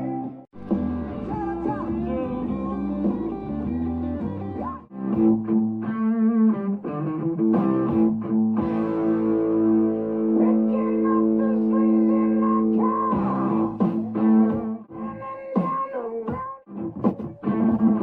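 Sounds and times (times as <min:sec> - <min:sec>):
guitar background music: 0:00.0 - 0:18.0.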